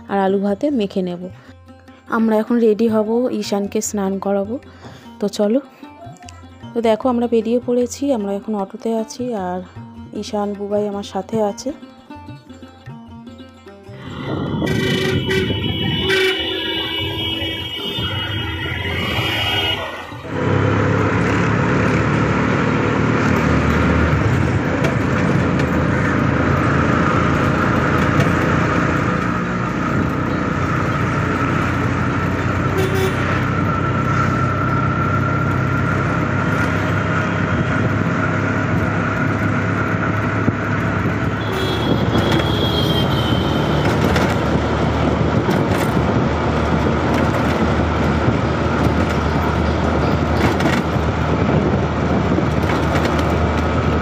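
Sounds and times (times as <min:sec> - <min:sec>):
road and traffic noise: 0:00.0 - 0:54.0
auto-rickshaw engine running: 0:10.2 - 0:54.0.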